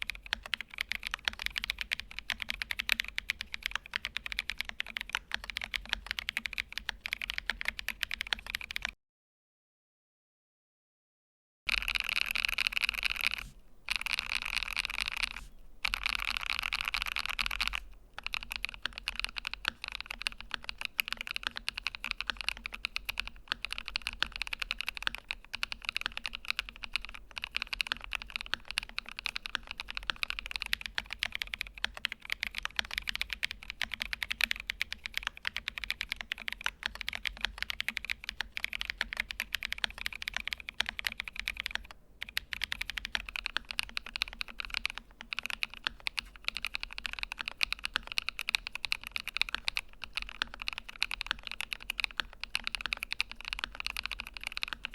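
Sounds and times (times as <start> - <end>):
mechanical keyboard typing: 0.0 - 9.0, 11.7 - 54.9.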